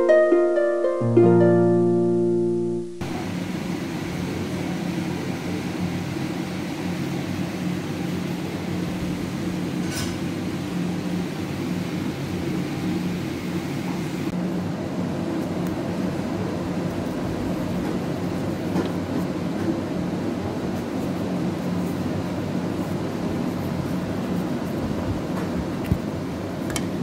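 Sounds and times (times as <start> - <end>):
appliance humming: 3.0 - 27.0.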